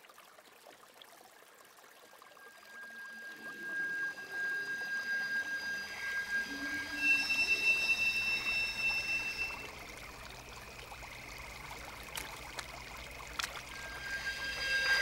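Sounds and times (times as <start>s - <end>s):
shallow water trickling: 0.0s - 15.0s
high steady ringing tones: 2.2s - 15.0s.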